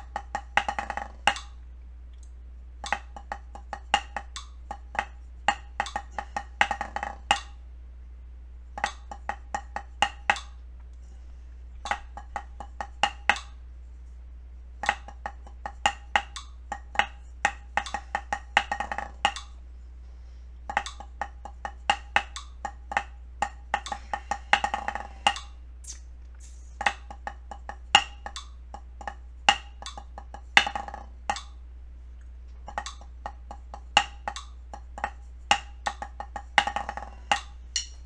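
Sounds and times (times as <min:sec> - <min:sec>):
drumsticks on practice pad: 0:00.0 - 0:07.7, 0:08.8 - 0:11.2, 0:11.8 - 0:13.7, 0:14.8 - 0:31.7, 0:32.3 - 0:38.0.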